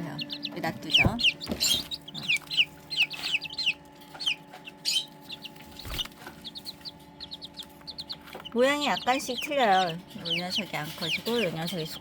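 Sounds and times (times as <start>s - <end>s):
chicks peeping: 0.0s - 12.0s
fan humming: 0.0s - 12.0s.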